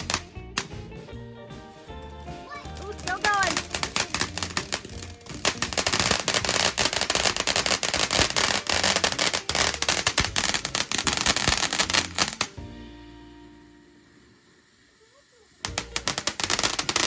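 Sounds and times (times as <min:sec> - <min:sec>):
fireworks popping and crackling: 0:00.0 - 0:17.0.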